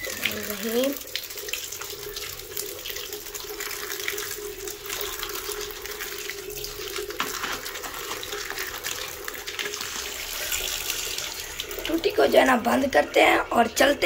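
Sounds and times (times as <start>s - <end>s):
tap water splashing: 0.0s - 12.1s.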